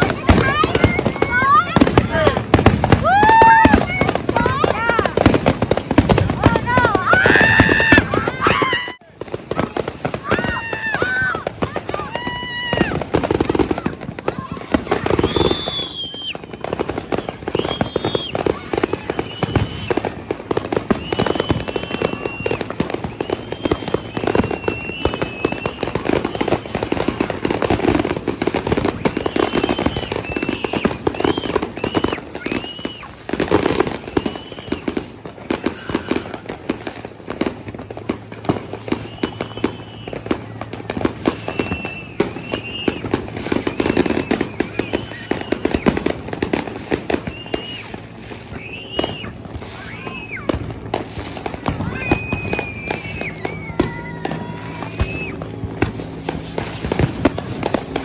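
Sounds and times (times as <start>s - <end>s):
fireworks crackling and popping: 0.0s - 58.0s
fireworks whistling: 0.0s - 58.0s.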